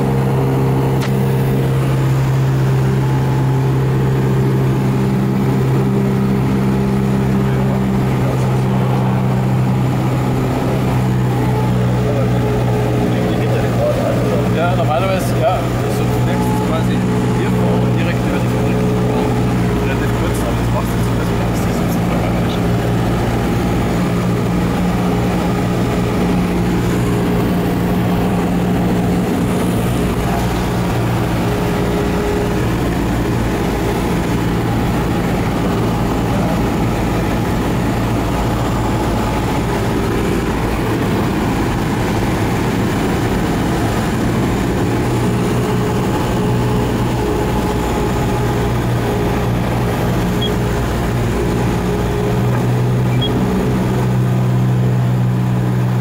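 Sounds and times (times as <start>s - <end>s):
airplane engine drone in cabin: 0.0s - 56.0s.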